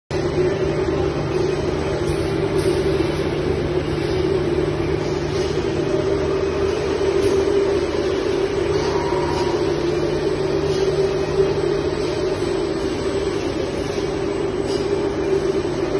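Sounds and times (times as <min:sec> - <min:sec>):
machinery drone: 0:00.1 - 0:15.9.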